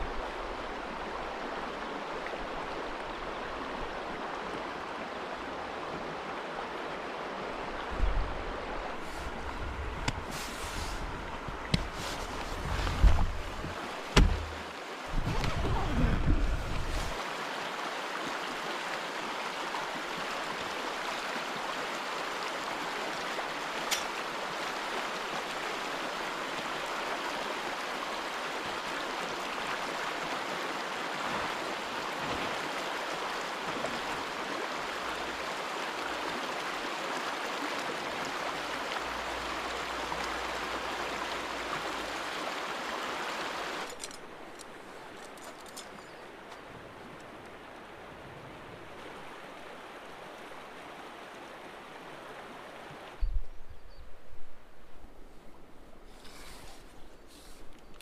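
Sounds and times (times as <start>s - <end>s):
stream water rushing: 0.0s - 53.2s.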